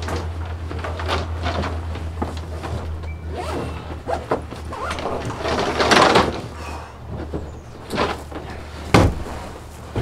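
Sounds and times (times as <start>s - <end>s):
rustling and handling noises: 0.0s - 10.0s
steady low hum: 0.0s - 10.0s.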